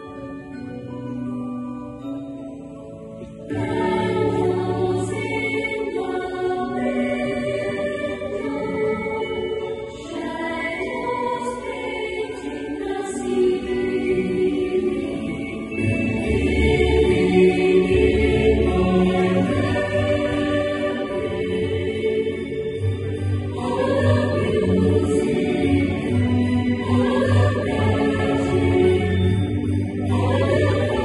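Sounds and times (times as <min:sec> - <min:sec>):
choir singing with music: 0:00.0 - 0:31.0.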